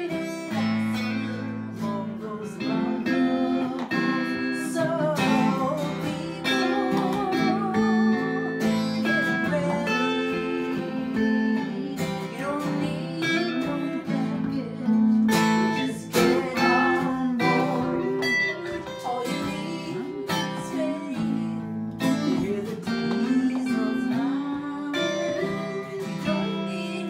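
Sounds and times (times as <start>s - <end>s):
acoustic guitar strumming: 0.0s - 27.0s
guitar melody with vibrato: 0.0s - 27.0s.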